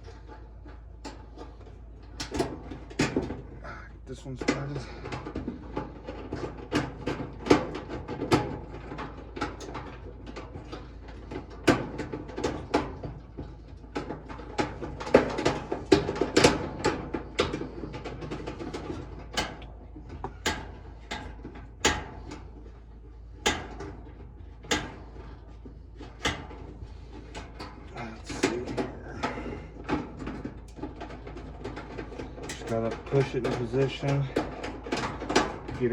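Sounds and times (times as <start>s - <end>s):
steady low hum: 0.0s - 35.9s
metallic clicks and knocks: 4.1s - 35.9s.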